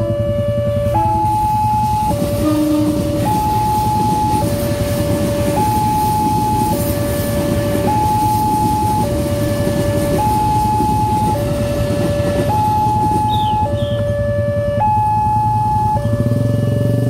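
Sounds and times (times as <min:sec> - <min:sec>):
electric train rumble: 0:00.0 - 0:17.0
two-tone crossing alarm: 0:00.0 - 0:17.0.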